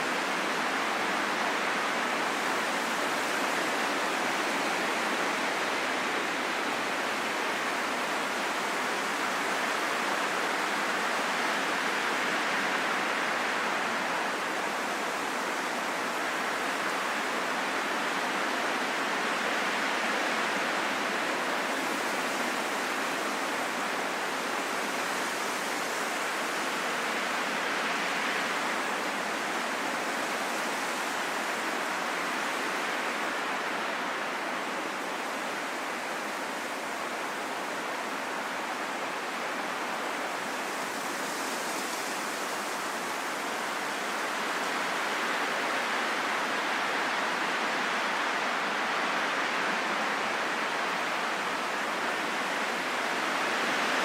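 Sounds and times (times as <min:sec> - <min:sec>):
rushing wind: 0:00.0 - 0:54.0.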